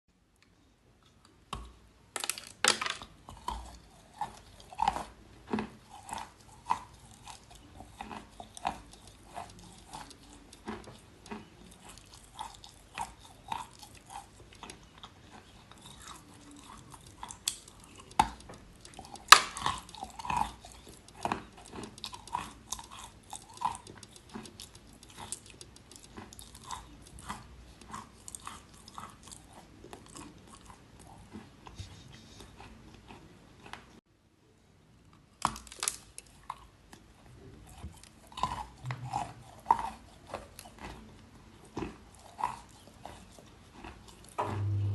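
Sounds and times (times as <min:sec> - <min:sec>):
crunching and chewing chalk: 0:00.4 - 0:34.0, 0:35.1 - 0:44.9.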